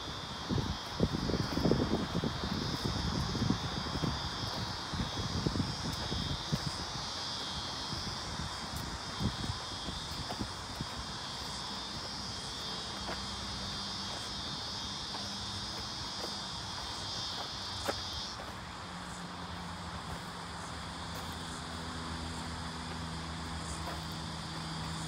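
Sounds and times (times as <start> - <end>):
footsteps on dirt: 0.0 - 25.0
insects calling: 0.0 - 25.0.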